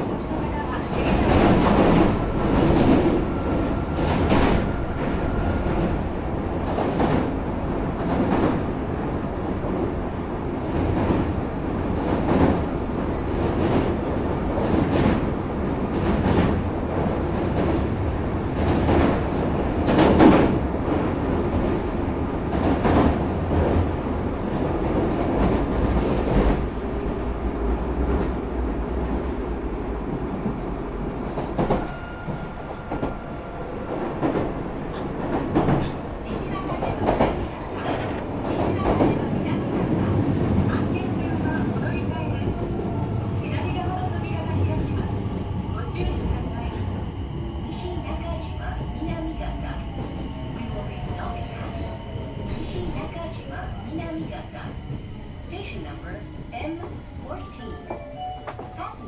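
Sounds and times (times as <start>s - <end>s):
train wheel and rail rumble: 0.0s - 59.0s.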